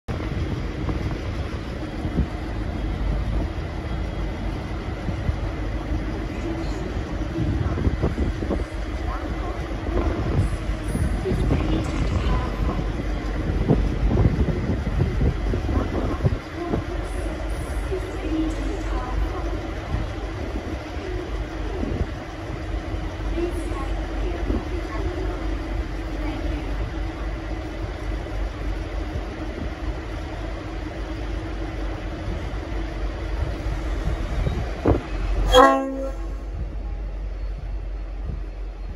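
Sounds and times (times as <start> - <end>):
diesel locomotive idling: 0.1 - 38.9.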